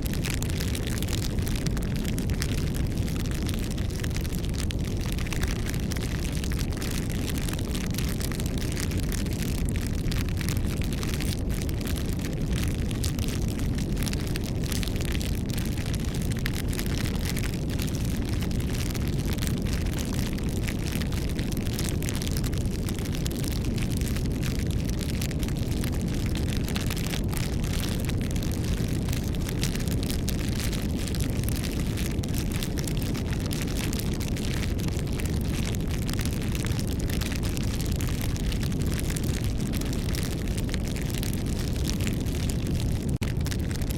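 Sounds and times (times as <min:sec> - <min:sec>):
campfire flames rumbling: 0:00.0 - 0:43.9
wood crackling and popping: 0:00.0 - 0:43.9.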